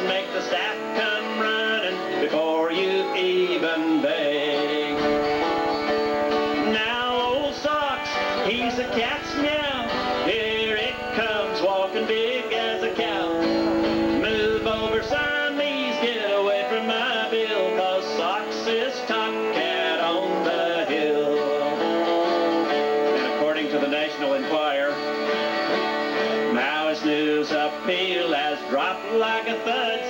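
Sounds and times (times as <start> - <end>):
country song on guitars: 0.0 - 30.0.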